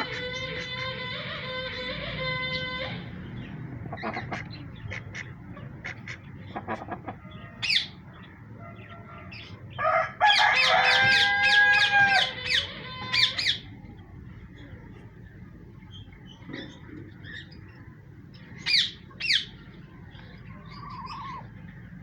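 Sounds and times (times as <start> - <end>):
poultry calling: 0.0 - 22.0.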